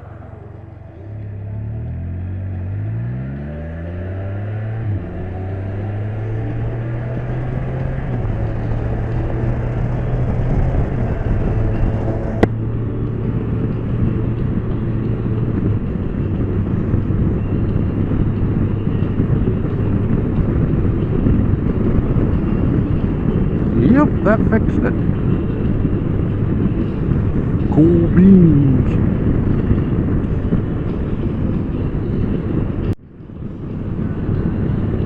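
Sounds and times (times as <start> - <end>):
motorbike engine cruising: 0.0 - 35.0
wind and road noise: 0.0 - 35.0.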